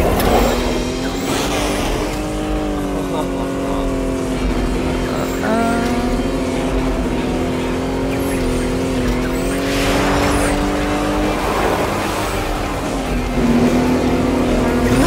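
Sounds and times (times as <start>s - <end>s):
cartoon truck engine: 0.0s - 15.0s
skidding noise: 0.0s - 15.0s.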